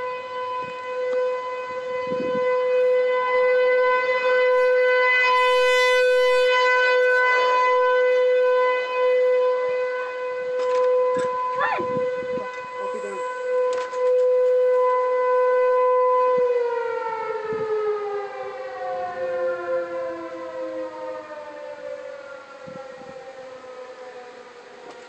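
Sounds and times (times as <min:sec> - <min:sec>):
storm warning siren steady tone: 0:00.0 - 0:25.0.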